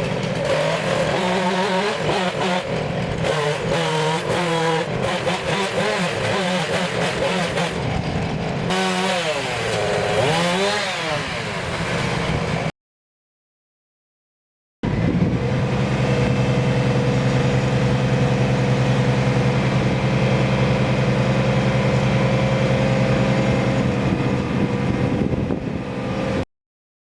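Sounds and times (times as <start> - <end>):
tractor engine running steadily: 0.0 - 10.0, 14.8 - 26.4.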